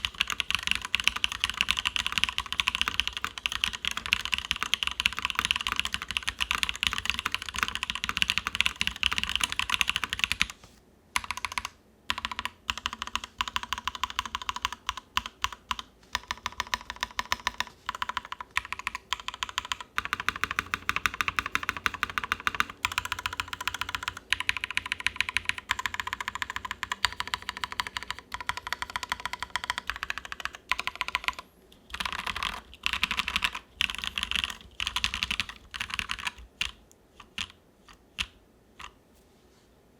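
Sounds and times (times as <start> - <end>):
typing on mechanical keyboard: 0.0 - 10.6, 11.2 - 39.0.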